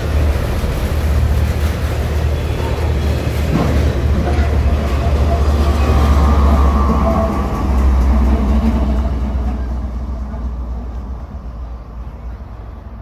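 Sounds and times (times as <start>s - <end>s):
diesel locomotive engine rumble: 0.0s - 13.0s
steel wheels on rails: 0.0s - 13.0s.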